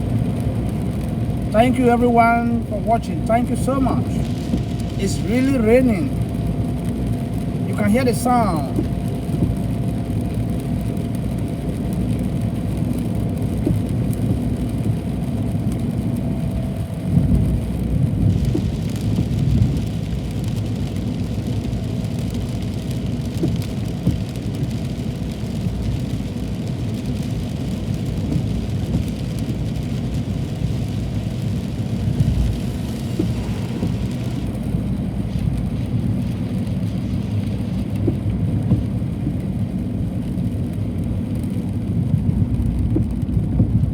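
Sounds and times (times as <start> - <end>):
car driving rumble: 0.0 - 43.9
rain hissing: 0.0 - 43.9.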